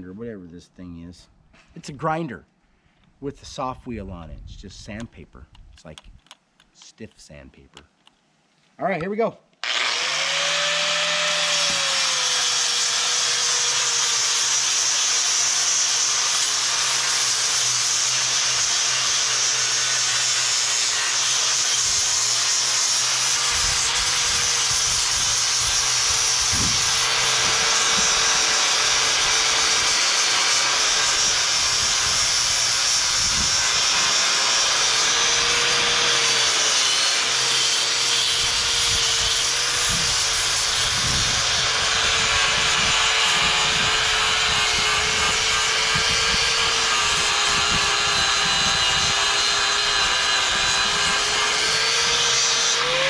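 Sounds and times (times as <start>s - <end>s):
angle grinder grinding concrete: 9.6s - 53.0s.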